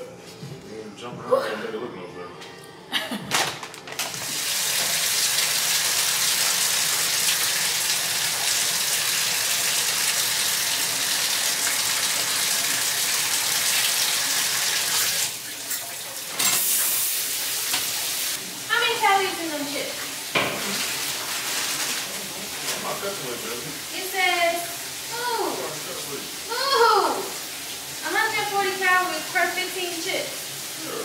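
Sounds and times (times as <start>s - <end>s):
shower water spraying into bathtub: 4.0s - 31.0s.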